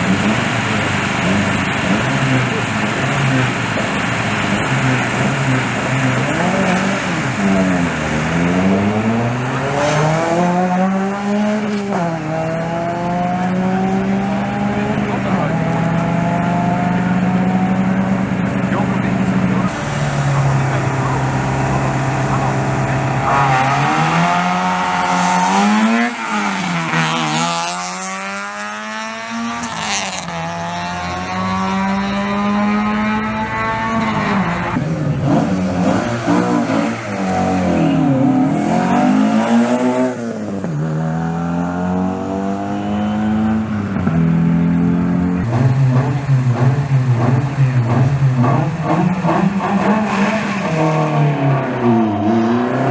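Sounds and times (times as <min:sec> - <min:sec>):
rally car engine accelerating: 0:00.0 - 0:52.9.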